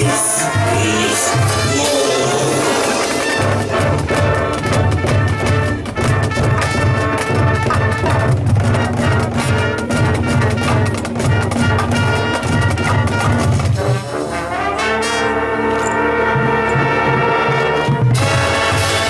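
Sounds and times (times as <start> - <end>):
drum line rapid strokes: 0.0 - 14.8, 16.1 - 19.0
brass playing: 0.0 - 19.0.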